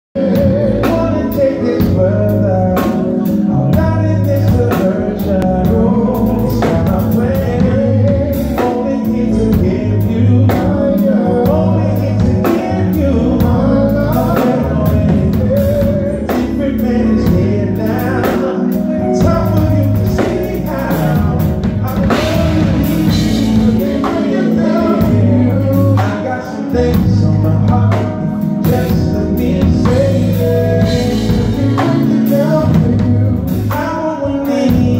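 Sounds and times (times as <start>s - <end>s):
live band playing: 0.2s - 34.9s
man singing lead vocals: 0.2s - 34.9s.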